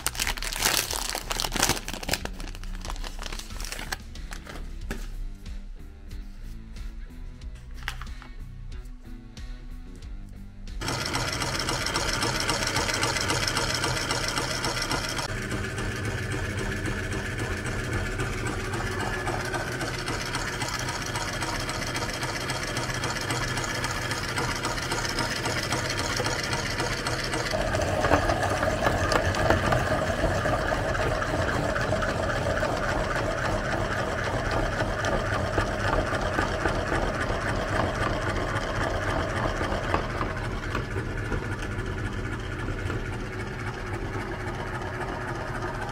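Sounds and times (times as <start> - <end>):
meat grinder running: 0.0 - 4.6, 10.8 - 45.9.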